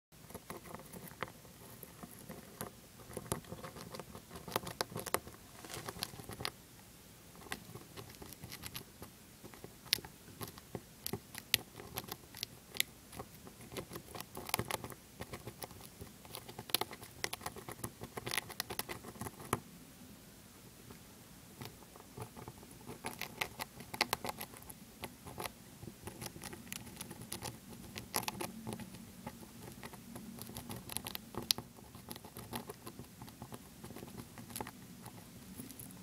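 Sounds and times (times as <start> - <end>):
hamster gnawing a peanut: 0.1 - 19.7, 20.8 - 36.0.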